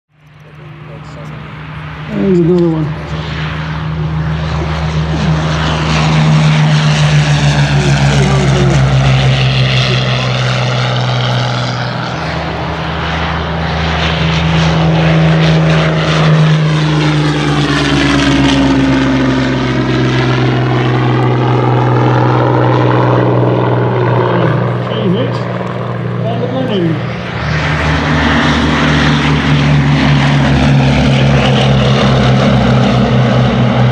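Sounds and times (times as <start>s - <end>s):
aircraft engines droning: 0.1s - 33.9s.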